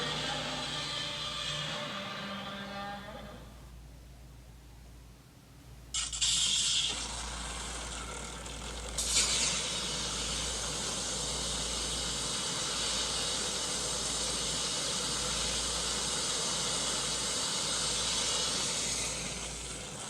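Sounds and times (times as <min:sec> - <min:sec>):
loud steady hiss: 0:00.0 - 0:03.4, 0:05.9 - 0:20.0.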